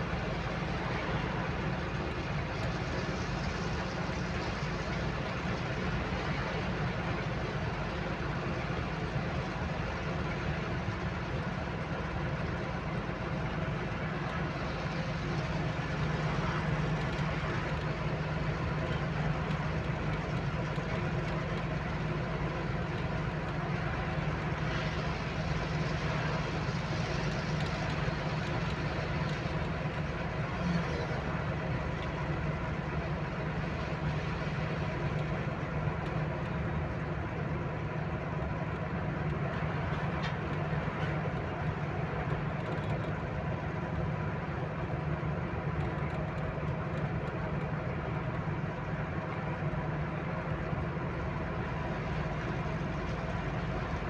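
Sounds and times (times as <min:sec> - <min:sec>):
road and wind noise: 0:00.0 - 0:54.0
truck diesel engine running: 0:00.0 - 0:54.0.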